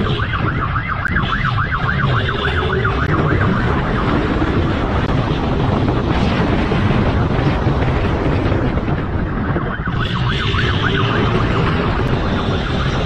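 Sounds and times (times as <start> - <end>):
police siren yelping: 0.0 - 6.1, 8.6 - 13.0
wind rush: 0.0 - 13.0.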